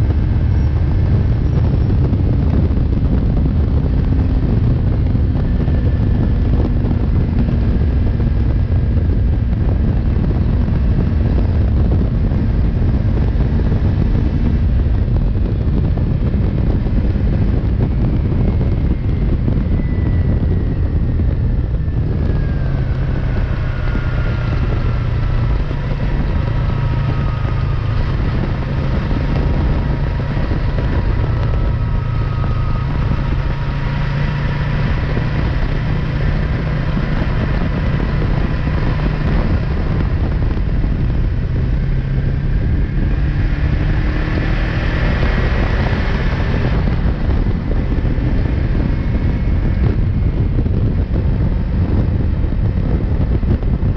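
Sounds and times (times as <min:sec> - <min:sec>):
motorcycle engine running: 0:00.0 - 0:53.9
wind rush on microphone: 0:00.0 - 0:53.9.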